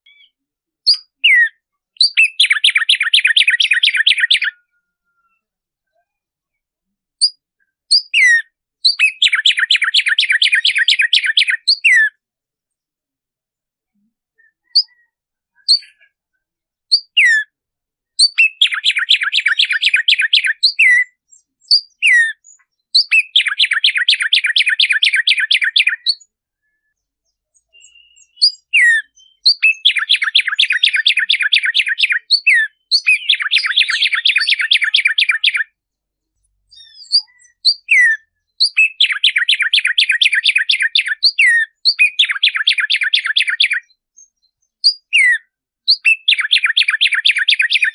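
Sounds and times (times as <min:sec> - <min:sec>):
sparrow singing: 0:00.0 - 0:06.0, 0:07.1 - 0:12.2, 0:13.9 - 0:47.9.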